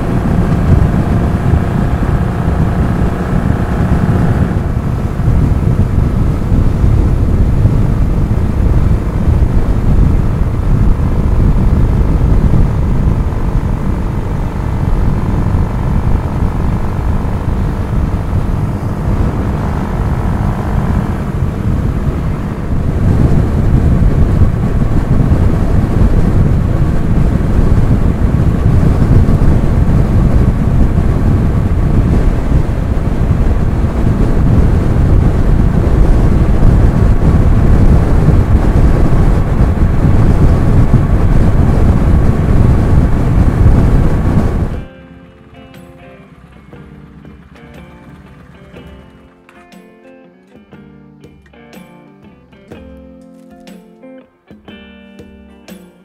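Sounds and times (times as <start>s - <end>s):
wind rush on microphone: 0.0s - 44.9s
motorcycle engine cruising: 0.0s - 51.9s.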